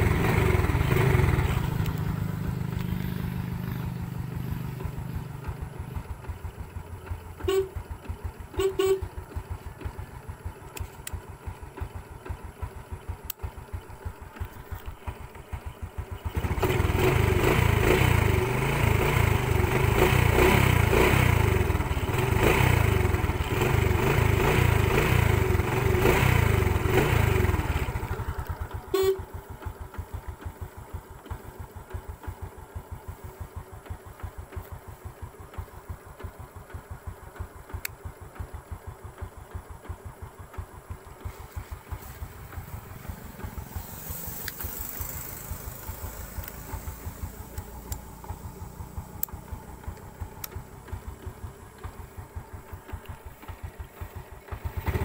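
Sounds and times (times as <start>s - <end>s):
motorcycle engine idling: 0.0s - 55.0s
motorcycle engine revving: 0.0s - 55.0s.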